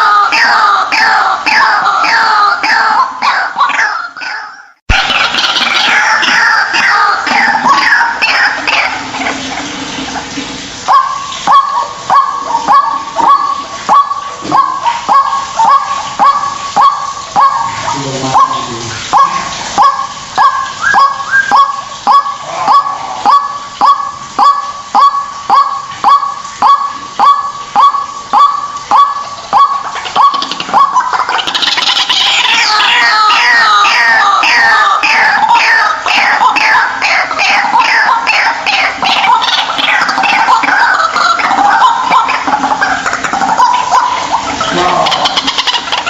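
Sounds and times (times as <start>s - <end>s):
bird high-pitched chatter: 0.0s - 9.0s, 10.9s - 46.0s
waterhen honking calls: 0.0s - 46.0s.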